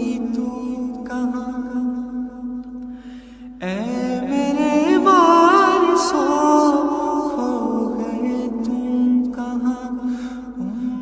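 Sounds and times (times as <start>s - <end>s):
hummed vocal drone: 0.0s - 2.8s, 3.6s - 11.0s
man singing ornamented line: 0.0s - 2.8s, 3.6s - 11.0s.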